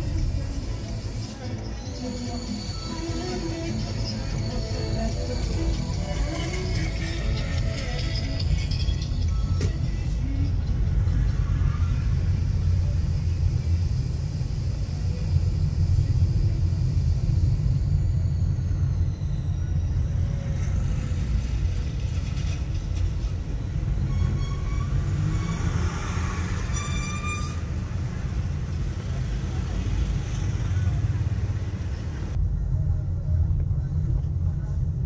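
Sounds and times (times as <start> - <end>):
road traffic: 0.0 - 35.0
vehicle rumbling: 0.0 - 35.0.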